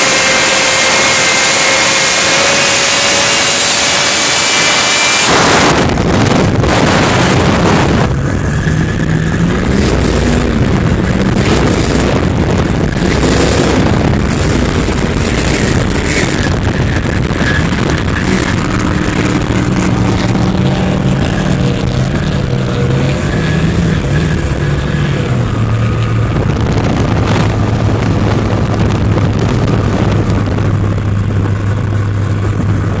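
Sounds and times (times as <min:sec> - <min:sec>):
boat engine running at speed: 0:00.0 - 0:33.0
wind and water rushing: 0:00.0 - 0:33.0.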